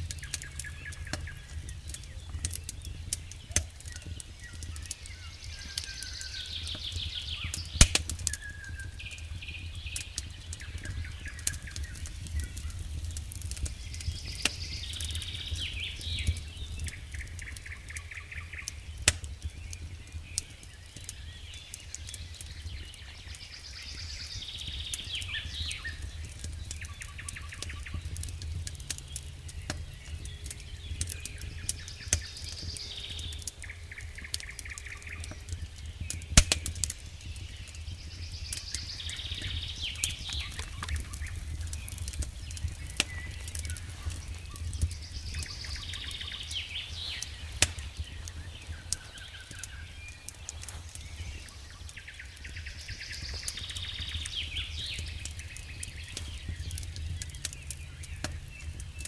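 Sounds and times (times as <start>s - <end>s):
campfire crackling and popping: 0.0s - 59.0s
low rumble of fire: 0.0s - 59.0s
songbirds trilling: 0.0s - 59.0s.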